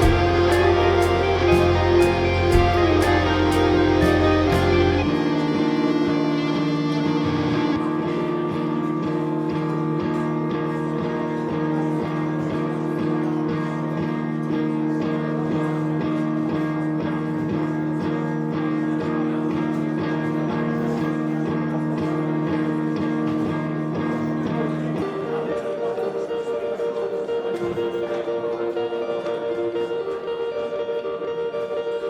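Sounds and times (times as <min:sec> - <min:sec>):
guitar picked over held chords: 0:00.0 - 0:32.0.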